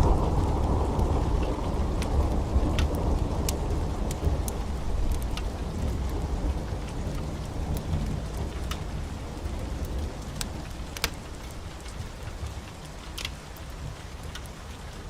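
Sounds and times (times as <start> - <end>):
sharp crackles: 0.0 - 8.9, 9.8 - 14.5
low thunder rumble: 0.0 - 12.6
heavy rain falling: 0.0 - 15.0.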